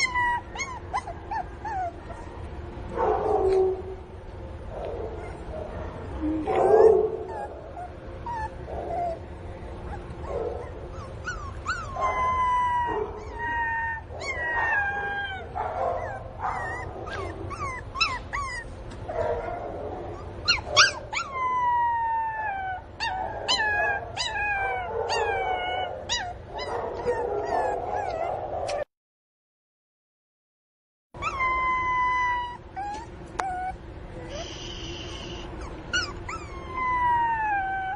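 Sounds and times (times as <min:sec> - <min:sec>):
puppy whining: 0:00.0 - 0:02.5, 0:05.0 - 0:28.9, 0:31.2 - 0:37.9.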